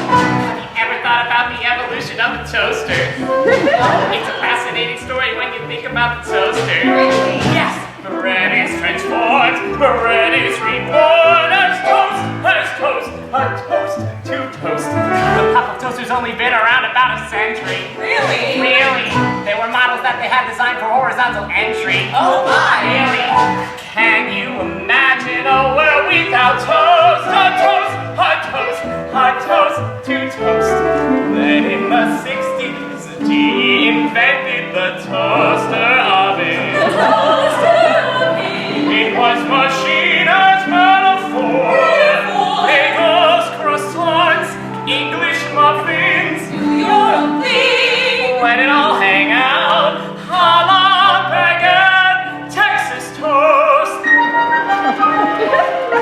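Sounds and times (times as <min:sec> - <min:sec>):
man singing operatically: 0:00.0 - 0:54.4
instrumental accompaniment: 0:00.0 - 0:56.0.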